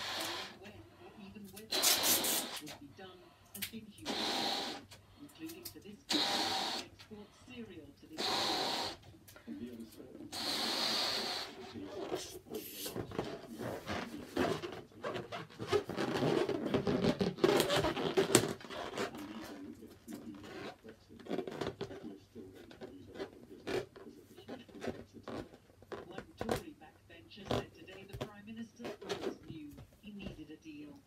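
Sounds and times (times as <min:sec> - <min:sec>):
balloon rubbing and squeaking: 0:00.0 - 0:02.8, 0:04.0 - 0:05.0, 0:06.0 - 0:07.0, 0:08.1 - 0:09.1, 0:10.0 - 0:26.7, 0:27.3 - 0:30.4.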